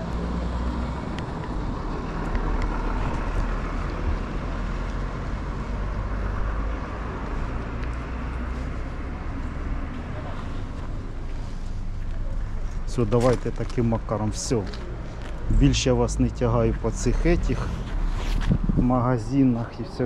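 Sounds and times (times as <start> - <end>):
low traffic rumble: 0.0 - 20.0.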